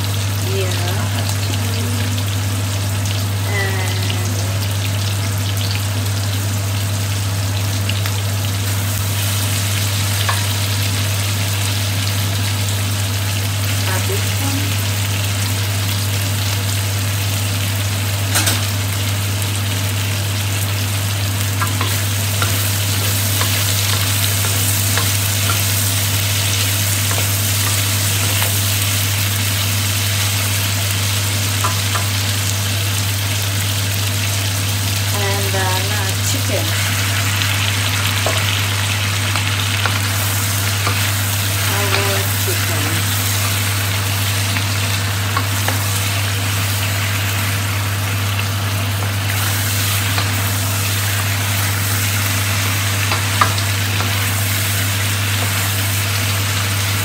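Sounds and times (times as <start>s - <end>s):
steady low hum: 0.0s - 56.3s
vegetables sizzling in oil: 0.0s - 57.0s.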